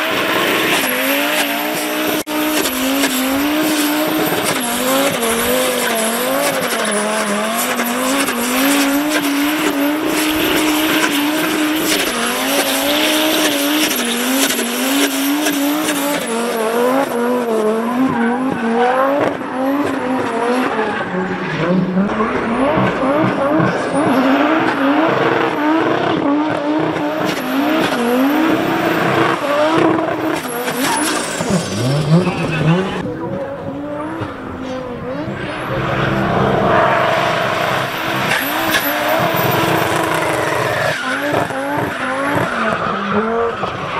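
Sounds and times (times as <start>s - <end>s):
car engine at high revs: 0.0s - 43.9s.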